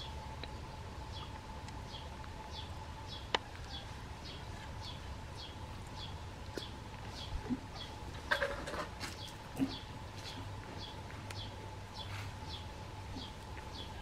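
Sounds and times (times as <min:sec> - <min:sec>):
bird chirping: 0:00.0 - 0:08.0, 0:09.1 - 0:14.0
faint steady hum: 0:00.0 - 0:14.0.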